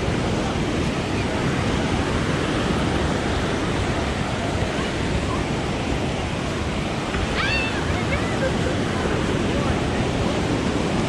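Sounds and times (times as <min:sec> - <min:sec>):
ocean waves breaking: 0:00.0 - 0:11.0
wind rumble on microphone: 0:00.0 - 0:11.0.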